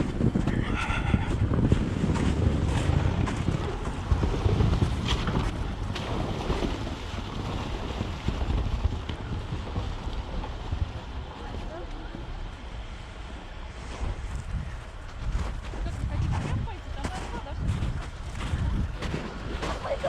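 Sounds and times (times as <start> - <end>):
off-road vehicle rumbling: 0.0 - 20.0
wind buffeting microphone: 0.0 - 20.0.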